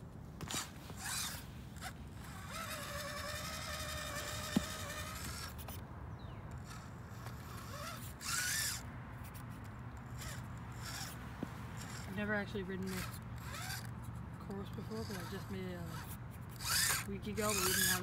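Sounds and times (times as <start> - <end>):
electric motor whining: 0.4 - 5.8, 6.4 - 18.0.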